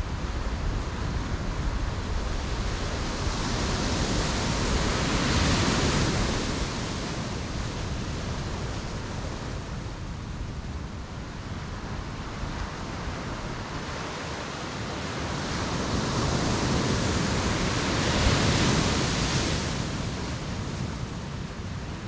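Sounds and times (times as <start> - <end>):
constant rush of surf: 0.0 - 22.0.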